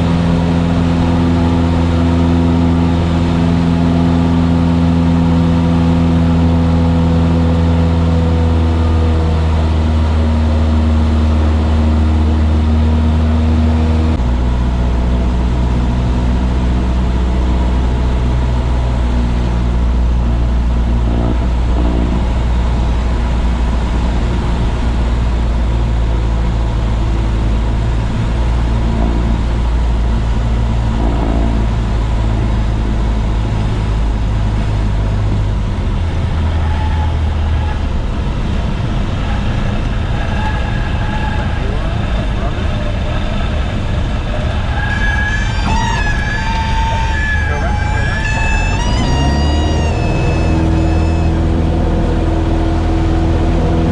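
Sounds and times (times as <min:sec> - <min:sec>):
light airplane engine and propeller: 0:00.0 - 0:53.9.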